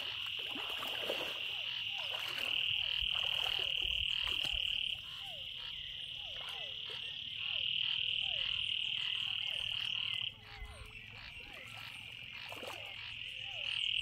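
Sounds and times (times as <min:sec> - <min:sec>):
frogs trilling: 0:00.0 - 0:14.0
water splashing from wading: 0:00.0 - 0:14.0.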